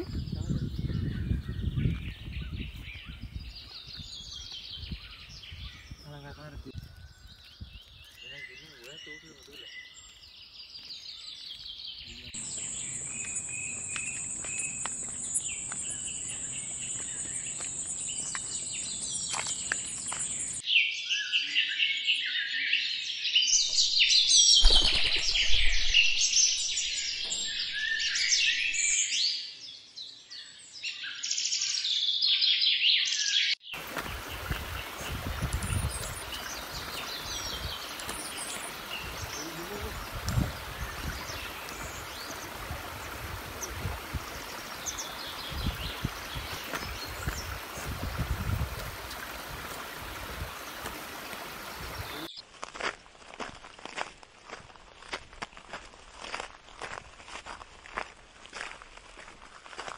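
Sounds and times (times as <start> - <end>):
birds chirping: 0.0 - 52.4
outdoor noise: 5.5 - 22.1, 23.1 - 59.9.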